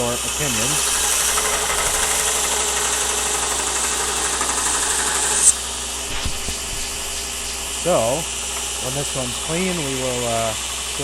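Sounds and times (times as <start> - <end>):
belt grinder motor running: 0.0 - 11.0.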